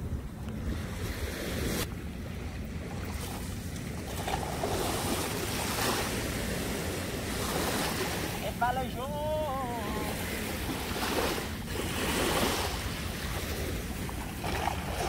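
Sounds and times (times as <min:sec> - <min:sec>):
sea surf washing: 0:00.0 - 0:15.0
wind rumbling on microphone: 0:00.0 - 0:15.0.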